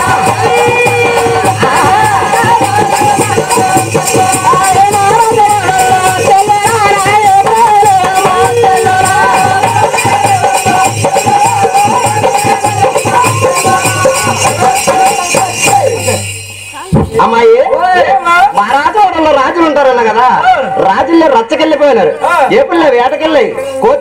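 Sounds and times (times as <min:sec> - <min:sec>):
fast even percussion: 0:00.0 - 0:21.6.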